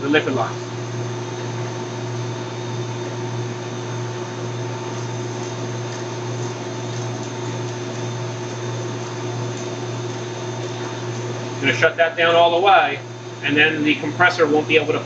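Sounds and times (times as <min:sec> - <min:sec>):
compressor hum: 0:00.0 - 0:15.0
condenser fan noise: 0:00.0 - 0:15.0.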